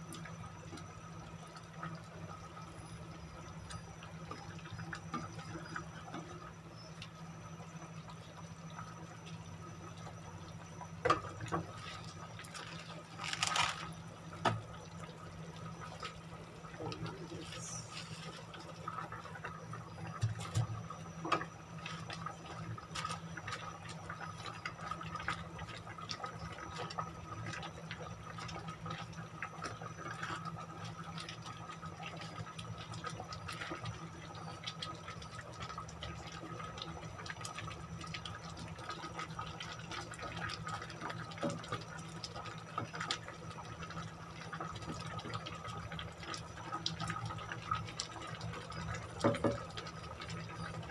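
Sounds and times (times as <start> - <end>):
steady low hum: 0.0 - 50.9
stew bubbling in a pot: 0.0 - 50.9.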